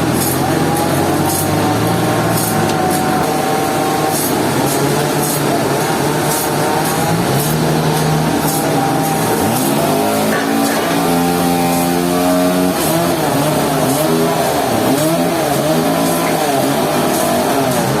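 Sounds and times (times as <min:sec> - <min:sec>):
sawmill machinery motor running: 0:00.0 - 0:18.0.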